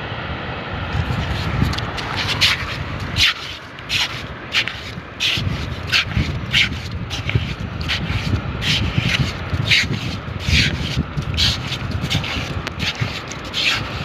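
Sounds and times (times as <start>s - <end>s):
digging into wet sand: 1.0s - 14.0s.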